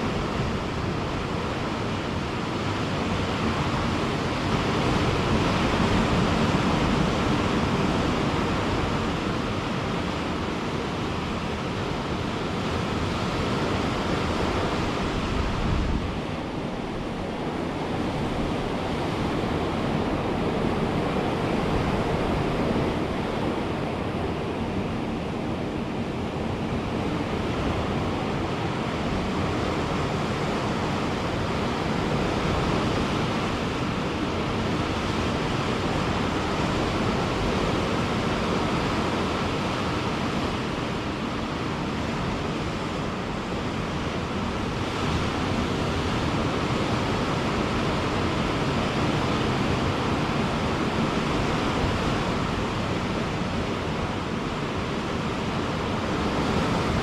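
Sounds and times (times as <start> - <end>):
waves breaking: 0.0 - 57.0
wind on microphone: 0.0 - 57.0.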